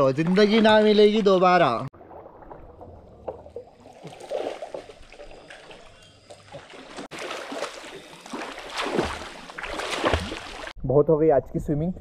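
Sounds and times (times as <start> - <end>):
pool water splashing: 0.0 - 10.8.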